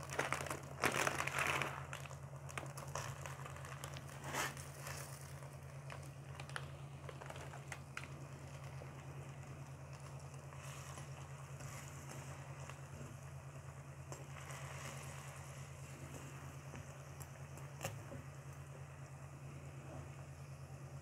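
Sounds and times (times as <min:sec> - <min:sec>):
steady low hum: 0:00.0 - 0:21.0
water simmering in a pan: 0:00.0 - 0:21.0.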